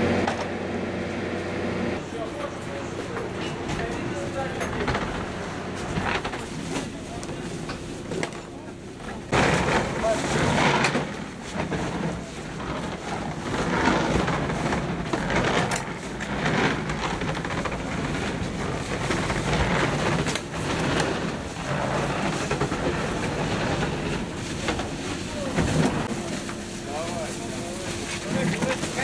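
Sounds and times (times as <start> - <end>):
knocks and rustling of packs: 2.3 - 29.0.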